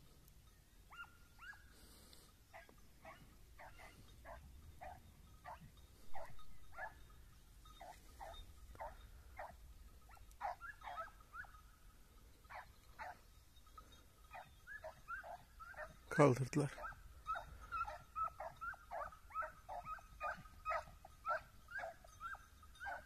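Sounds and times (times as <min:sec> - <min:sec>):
distant hounds yelping: 0:00.8 - 0:23.0.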